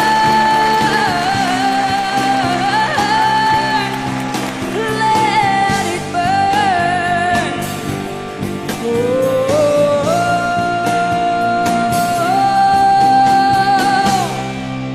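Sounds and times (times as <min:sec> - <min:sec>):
woman singing long held notes: 0:00.0 - 0:07.9, 0:08.7 - 0:14.5
band accompaniment: 0:00.0 - 0:14.9.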